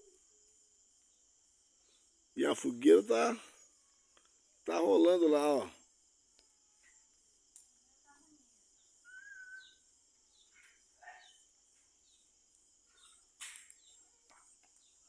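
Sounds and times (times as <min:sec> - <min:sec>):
faint insect hum: 0:00.0 - 0:15.0.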